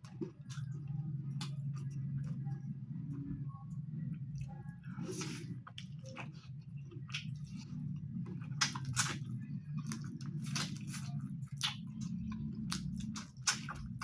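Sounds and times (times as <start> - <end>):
wet chewing mouth sounds: 0.0 - 3.3, 4.1 - 14.0
steady low hum: 0.0 - 14.0.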